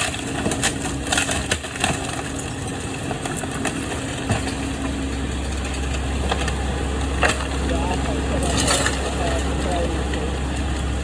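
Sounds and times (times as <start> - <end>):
deep rumble: 0.0 - 11.0
engine humming: 0.0 - 11.0.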